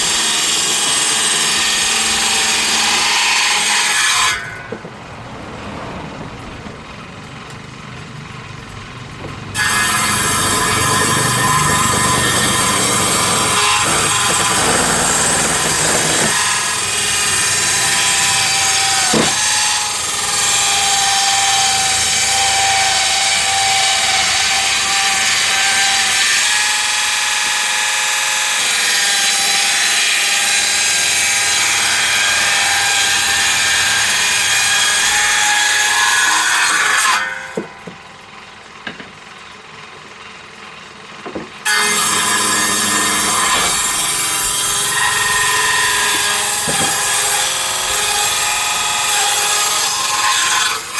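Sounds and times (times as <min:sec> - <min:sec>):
power saw cutting timber: 0:00.0 - 0:05.0, 0:09.4 - 0:38.2, 0:41.6 - 0:50.9.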